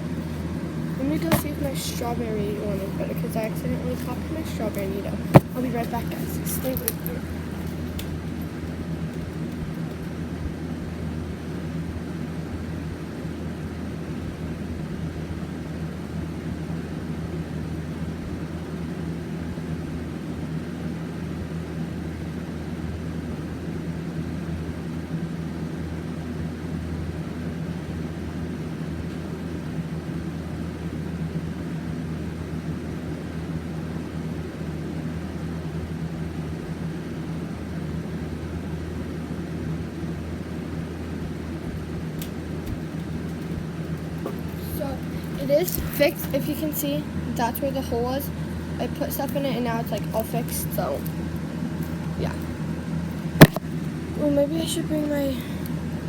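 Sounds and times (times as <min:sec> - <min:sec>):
low mechanical hum with whir: 0:00.0 - 0:56.0.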